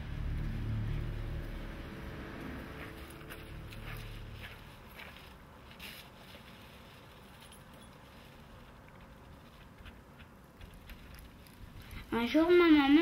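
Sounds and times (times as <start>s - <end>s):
quiet outdoor background: 0.0s - 13.0s
faint footsteps: 0.2s - 12.2s.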